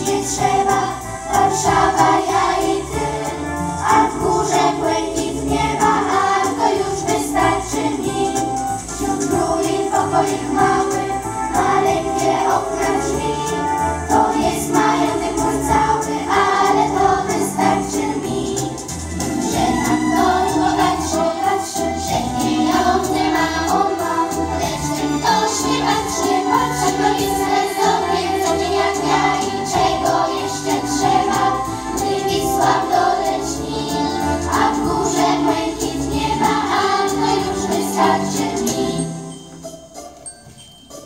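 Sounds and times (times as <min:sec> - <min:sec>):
children's choir singing: 0:00.0 - 0:40.0.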